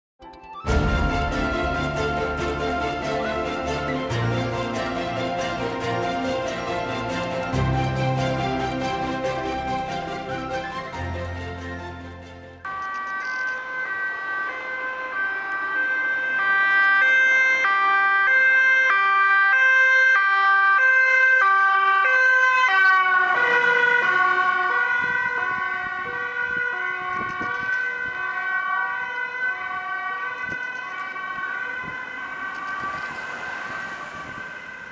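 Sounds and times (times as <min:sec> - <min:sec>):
two-tone siren passing: 0:00.6 - 0:34.9.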